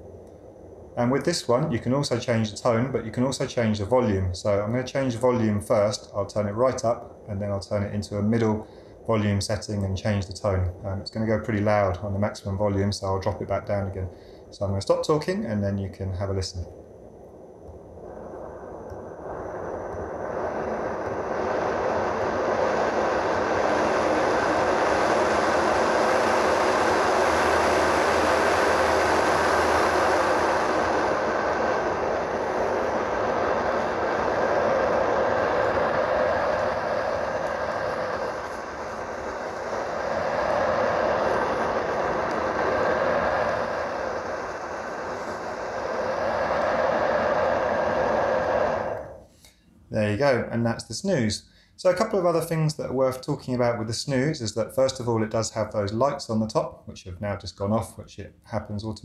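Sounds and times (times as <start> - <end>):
white noise machine fan: 0.0 - 59.0.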